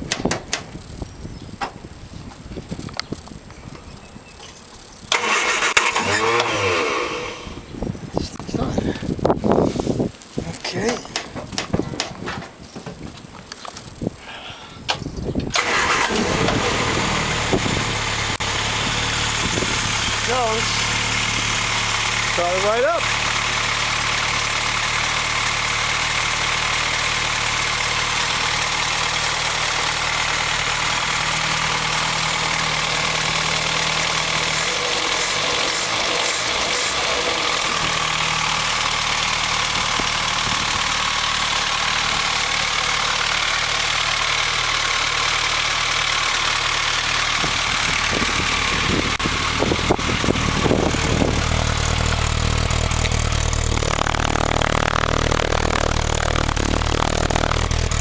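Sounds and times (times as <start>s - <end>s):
car engine running: 0.7s - 9.4s, 15.6s - 58.0s.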